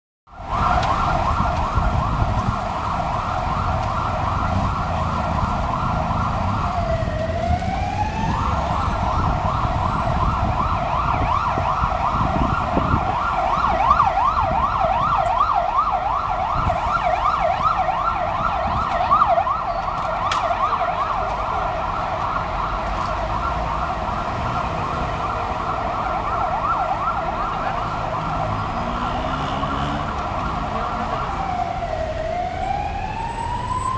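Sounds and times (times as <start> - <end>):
city traffic rumble: 0.3 - 33.9
siren yelping: 0.3 - 33.9.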